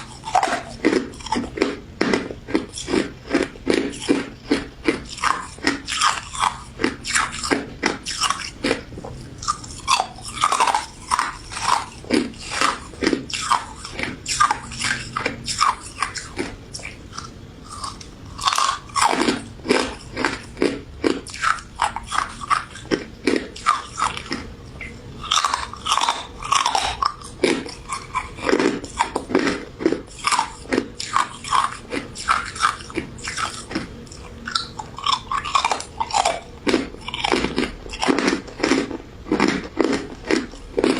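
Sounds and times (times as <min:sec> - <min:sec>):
crunchy ice dessert chewing: 0:00.0 - 0:40.9.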